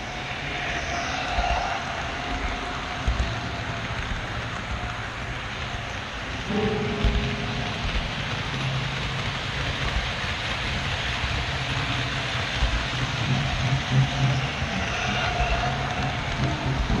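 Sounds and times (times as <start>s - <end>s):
low hum: 0.0s - 17.0s
model train wheels rolling on rails: 0.0s - 17.0s.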